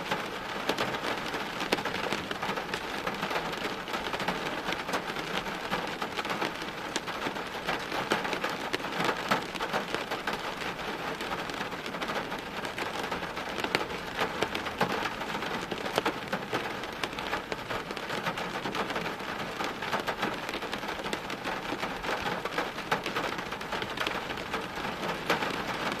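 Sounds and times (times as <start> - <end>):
raindrops ticking on hard surfaces: 0.0 - 26.0.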